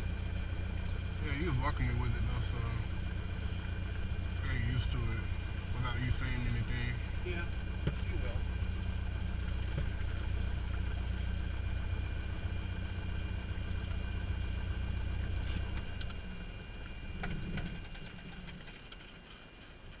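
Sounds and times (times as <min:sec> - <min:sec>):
aircraft piston engine idling: 0:00.0 - 0:20.0.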